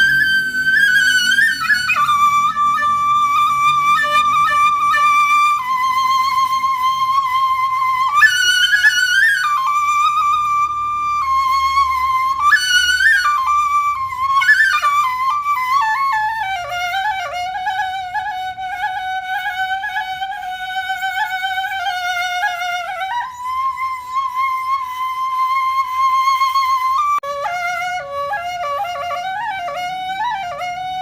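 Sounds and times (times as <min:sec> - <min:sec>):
solo flute melody: 0:00.0 - 0:31.0.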